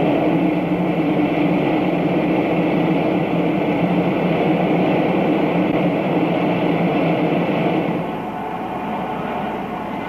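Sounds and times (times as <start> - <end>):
gas burners flame rush: 0.0 - 10.0.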